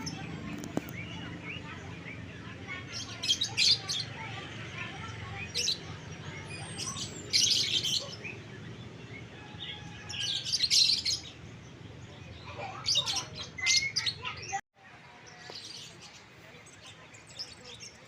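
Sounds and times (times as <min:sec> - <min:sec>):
birds chirping shrilly: 0:00.0 - 0:14.6.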